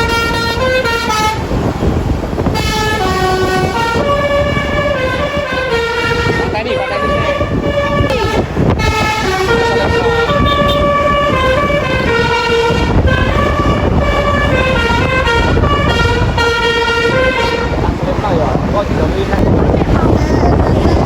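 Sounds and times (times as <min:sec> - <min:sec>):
multi-tone air horn melody: 0:00.0 - 0:01.6, 0:02.4 - 0:18.0
steady low rumble: 0:00.0 - 0:21.0.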